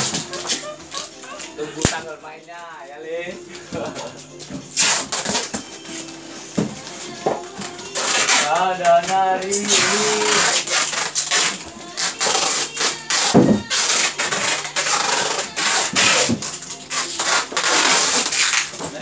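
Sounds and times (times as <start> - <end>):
styrofoam scraping and rubbing: 0.0 - 2.1, 3.8 - 19.0.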